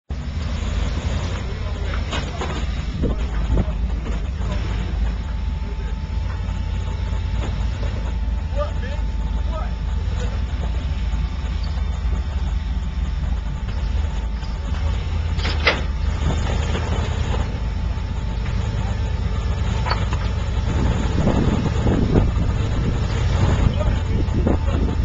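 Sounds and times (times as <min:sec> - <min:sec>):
engine low rumble: 0:00.1 - 0:25.0.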